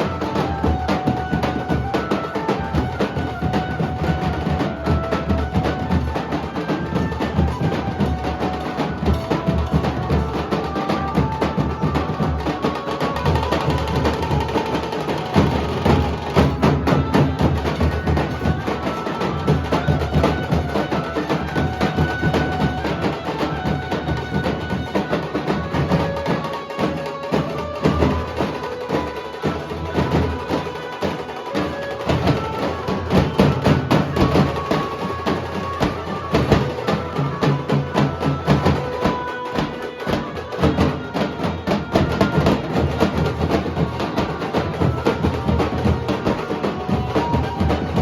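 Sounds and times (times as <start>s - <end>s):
dhol drums beating fast rhythm: 0.0s - 48.0s.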